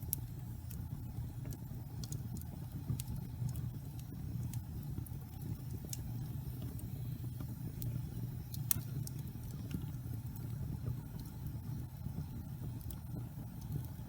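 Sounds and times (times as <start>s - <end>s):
fire crackles and pops: 0.0s - 14.0s
fire rumbling in fireplace: 0.0s - 14.0s.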